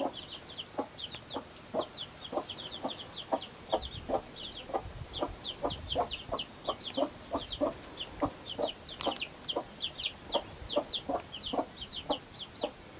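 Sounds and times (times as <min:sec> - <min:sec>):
hen clucking: 0:00.0 - 0:12.8
chicks peeping: 0:00.0 - 0:12.9.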